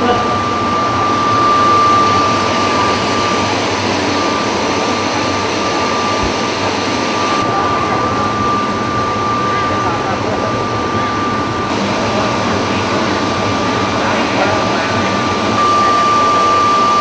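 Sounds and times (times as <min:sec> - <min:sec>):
high-pitched machine whine: 0:00.0 - 0:17.0.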